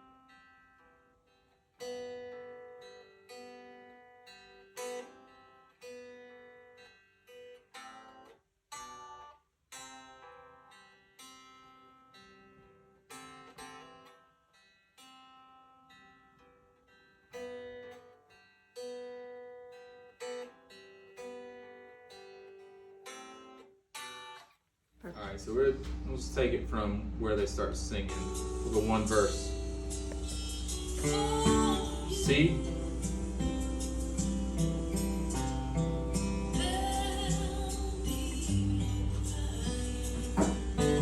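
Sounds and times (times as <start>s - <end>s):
fingerpicked acoustic guitar: 0.0s - 41.0s.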